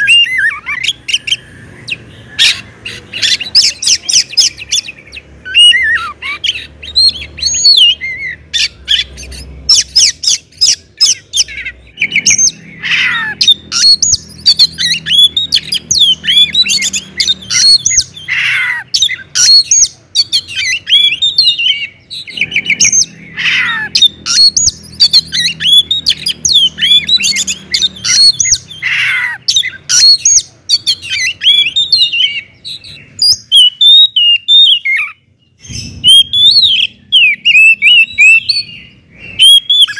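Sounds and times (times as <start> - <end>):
songbird singing varied whistles: 0.0 - 39.9.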